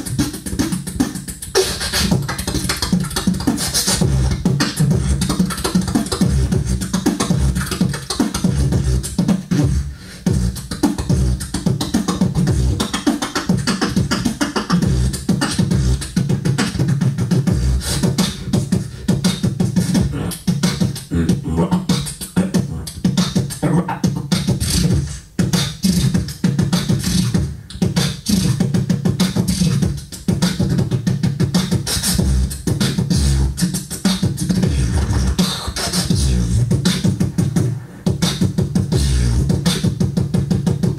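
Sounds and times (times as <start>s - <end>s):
person beatboxing into microphone: 0.0s - 40.9s.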